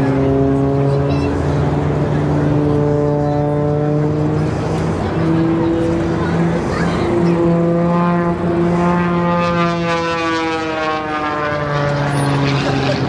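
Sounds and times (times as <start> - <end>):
aircraft engine drone flying past: 0.0 - 13.0.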